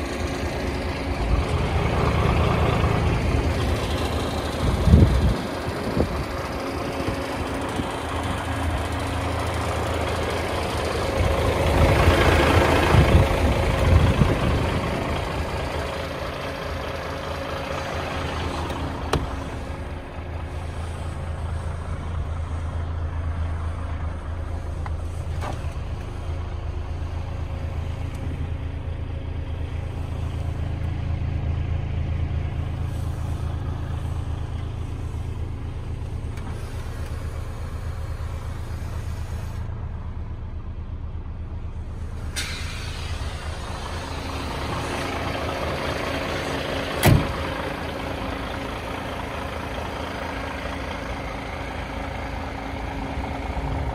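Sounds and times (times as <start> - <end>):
truck diesel engine idling: 0.0 - 53.9.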